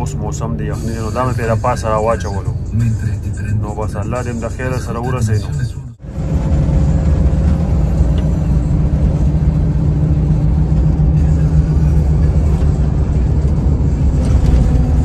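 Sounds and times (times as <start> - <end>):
bus engine rumble: 0.0 - 15.0
faint hum: 0.0 - 15.0
road noise: 0.0 - 15.0.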